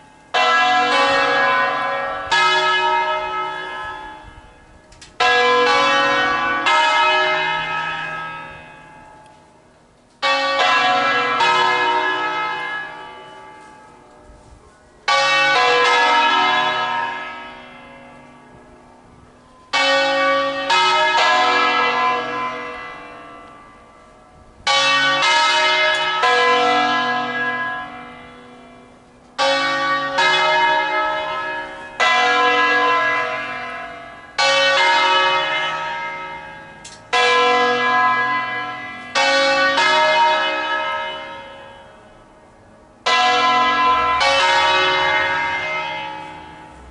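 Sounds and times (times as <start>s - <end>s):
church bells tolling: 0.0s - 46.9s.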